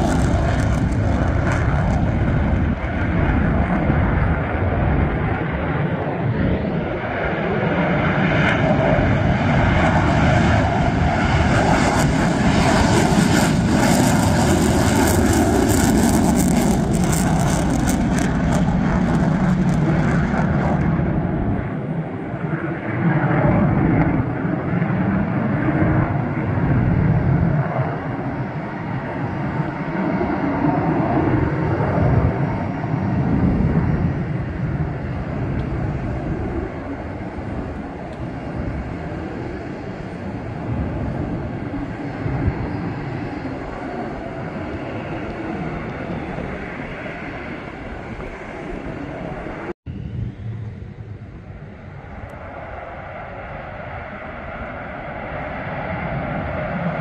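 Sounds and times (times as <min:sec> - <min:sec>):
jet roar with crackling: 0:00.0 - 0:57.0
wavering jet rumble: 0:00.0 - 0:57.0.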